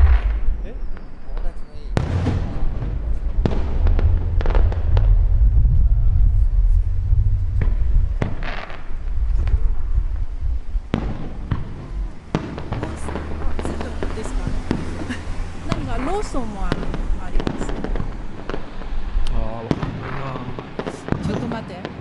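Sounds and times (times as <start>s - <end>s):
continuous deep rumble: 0.0s - 21.8s
fireworks bursting with sharp cracks: 0.0s - 22.0s.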